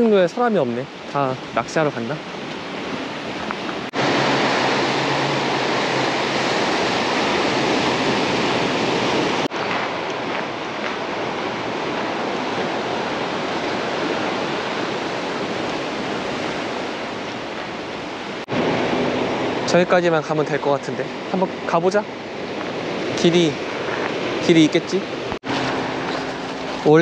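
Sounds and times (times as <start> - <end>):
waves breaking on shore: 0.0 - 27.0.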